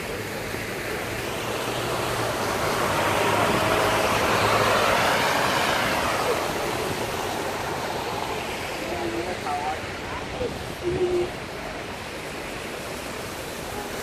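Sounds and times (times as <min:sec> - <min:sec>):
bus engine hum: 0:00.0 - 0:14.0
tyre hiss on wet road: 0:00.0 - 0:14.0.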